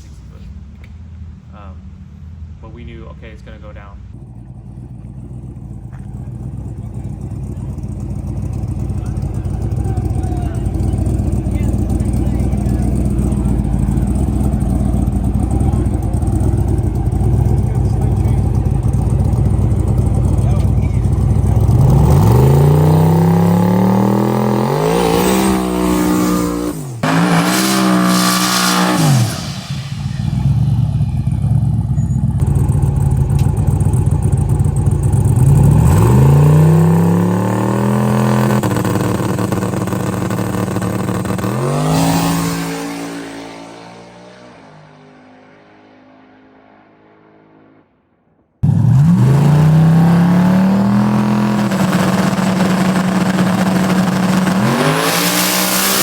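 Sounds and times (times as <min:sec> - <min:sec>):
car engine accelerating hard: 0:02.8 - 0:47.6, 0:48.6 - 0:56.0.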